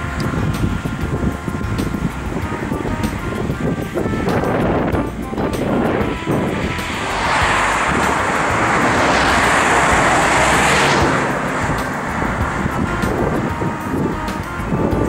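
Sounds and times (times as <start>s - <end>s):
steady traffic: 0.0s - 15.0s
vehicle passing close by: 0.0s - 15.0s.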